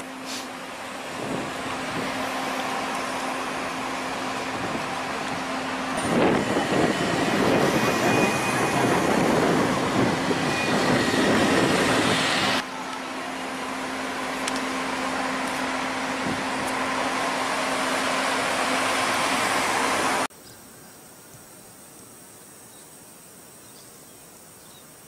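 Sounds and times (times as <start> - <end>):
car engines running: 0.0 - 20.3
tyres on road: 0.0 - 20.4.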